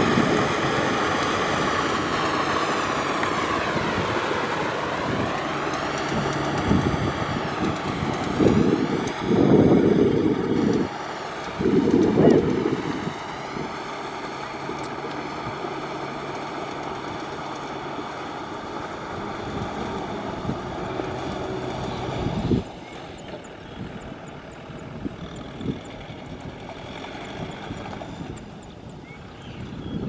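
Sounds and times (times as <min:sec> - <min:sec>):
quiet engine hum: 0:00.0 - 0:30.0
tractor engine running: 0:00.0 - 0:30.0.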